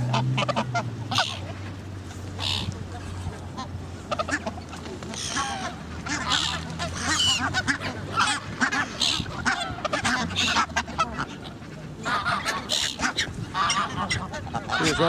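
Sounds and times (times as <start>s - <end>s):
geese honking: 0.0s - 15.0s
gulls calling: 0.0s - 15.0s.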